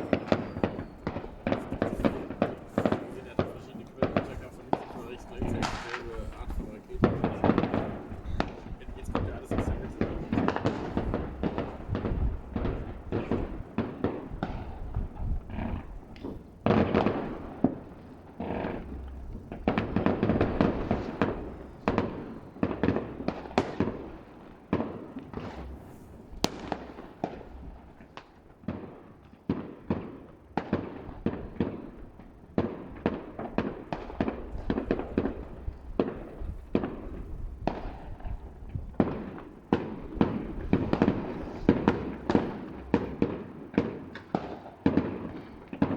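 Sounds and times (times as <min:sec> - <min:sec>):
distant fireworks bangs and crackles: 0:00.0 - 0:45.9.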